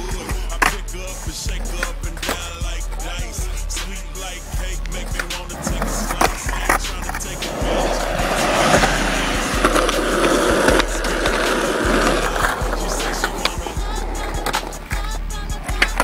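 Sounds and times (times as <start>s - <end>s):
skateboard clacks: 0.0s - 3.9s, 4.8s - 16.0s
music with heavy bass beat: 0.0s - 16.0s
skateboard wheels rolling on pavement: 0.0s - 16.0s.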